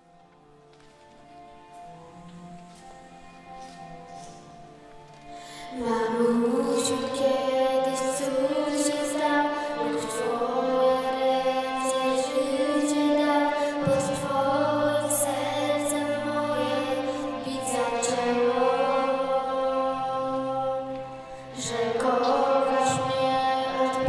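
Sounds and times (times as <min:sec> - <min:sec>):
slow background music: 0:00.0 - 0:24.0.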